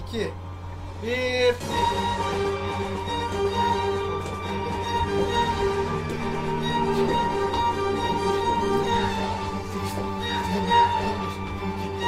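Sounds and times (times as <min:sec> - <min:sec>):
bowed string melody: 0:00.4 - 0:12.0.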